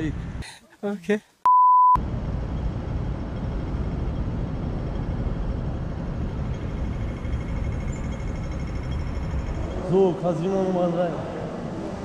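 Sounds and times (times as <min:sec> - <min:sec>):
traffic: 0:00.0 - 0:01.4, 0:02.0 - 0:12.0.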